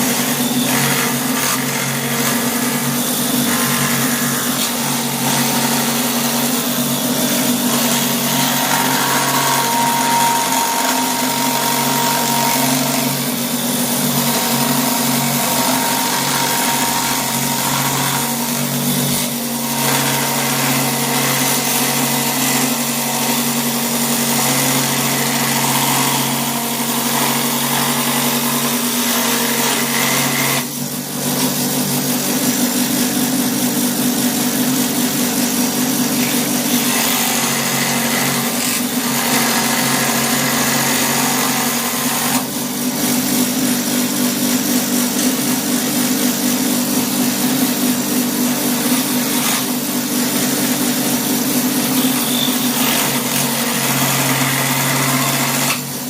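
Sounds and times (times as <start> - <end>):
die grinder grinding wood: 0.0 - 56.0.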